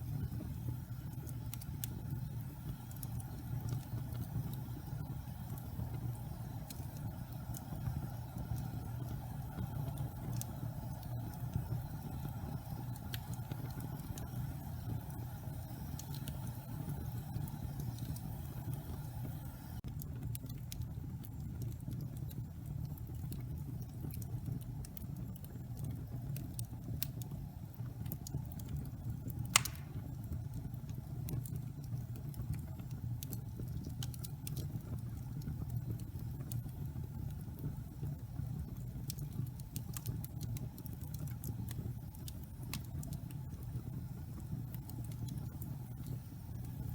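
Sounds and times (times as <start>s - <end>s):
fire popping and snapping: 0.0s - 46.9s
log fire crackling: 0.0s - 46.9s
low rumble of burning: 0.0s - 46.9s.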